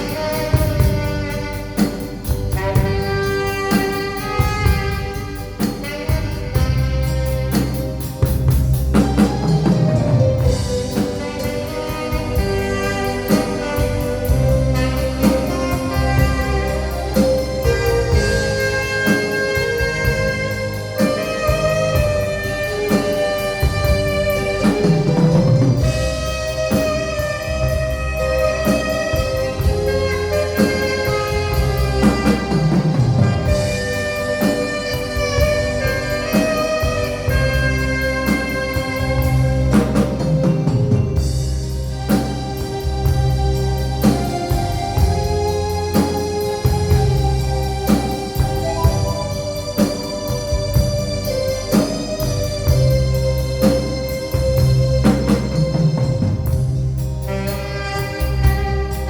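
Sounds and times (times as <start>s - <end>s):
alto saxophone melody: 0.0s - 59.0s
drum kit steady beat: 0.0s - 59.0s
keyboard: 0.0s - 59.0s.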